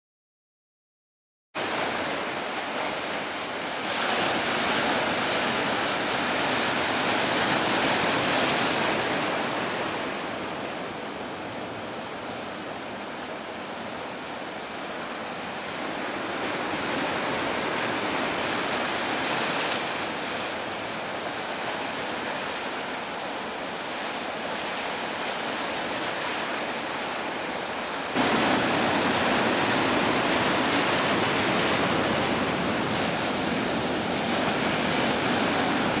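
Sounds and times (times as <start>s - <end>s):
waves breaking on shore: 1.6s - 36.0s.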